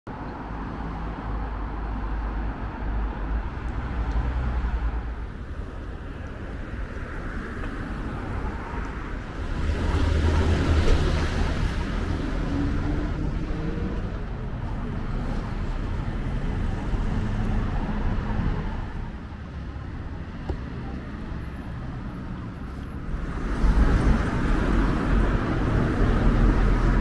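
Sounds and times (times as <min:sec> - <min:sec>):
traffic rumble: 0:00.1 - 0:27.0.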